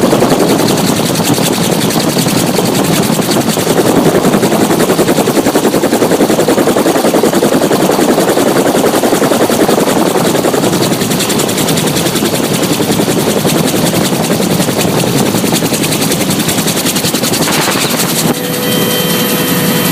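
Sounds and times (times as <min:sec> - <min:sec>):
helicopter rotor blades chopping: 0:00.0 - 0:19.9
steady whine: 0:00.0 - 0:19.9.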